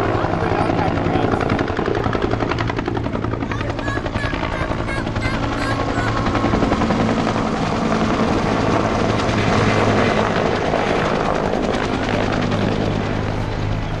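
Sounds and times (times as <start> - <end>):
helicopter engine tone: 0.0 - 14.0
helicopter rotor chopping: 0.0 - 14.0.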